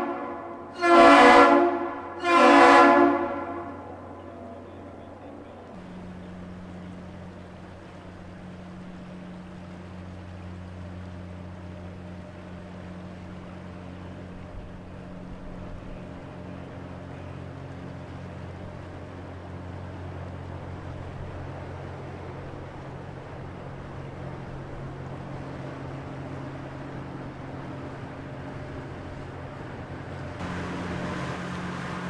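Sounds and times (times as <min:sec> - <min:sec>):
ship engine drone: 0:00.0 - 0:32.0
wake churning water: 0:00.0 - 0:32.0.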